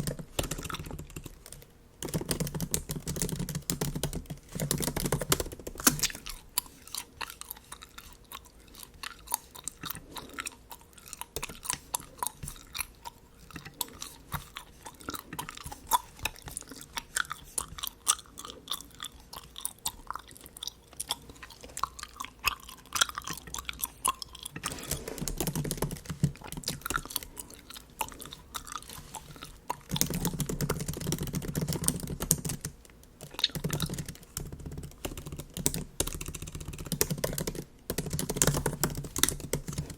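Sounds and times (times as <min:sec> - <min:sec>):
bubble gum chewing: 0:00.0 - 0:39.9.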